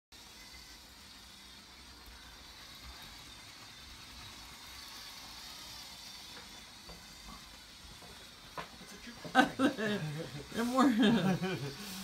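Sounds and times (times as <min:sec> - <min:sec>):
toy train whirring: 0:00.1 - 0:12.0.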